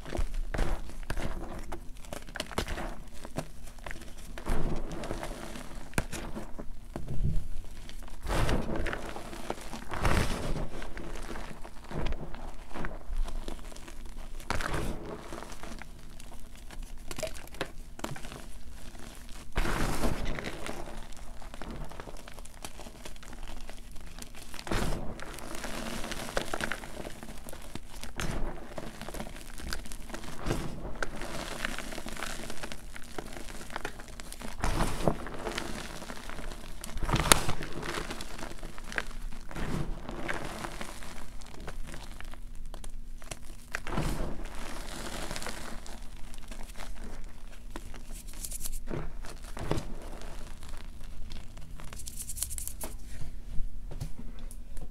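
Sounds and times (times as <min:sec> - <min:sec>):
hands crunching chalk: 0:00.0 - 0:06.7, 0:07.6 - 0:53.2.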